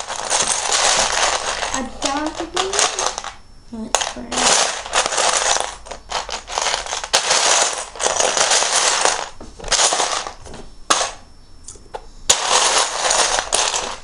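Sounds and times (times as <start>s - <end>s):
plastic bricks clattering: 0.0s - 11.2s, 12.3s - 14.0s.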